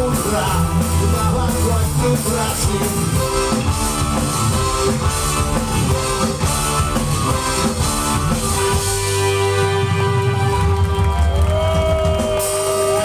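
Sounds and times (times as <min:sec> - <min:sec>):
keyboard notes: 0:00.0 - 0:11.2
drum kit: 0:00.0 - 0:13.0
electric guitar: 0:00.0 - 0:13.0.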